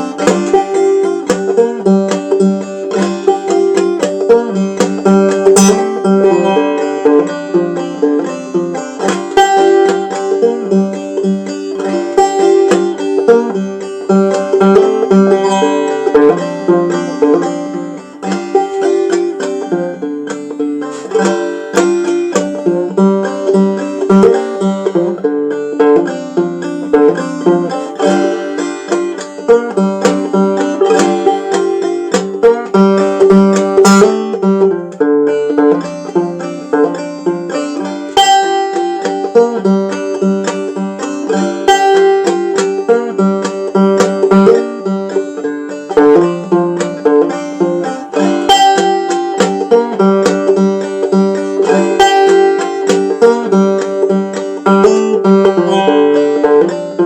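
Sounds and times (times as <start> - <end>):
banjo playing: 0.0 - 57.0.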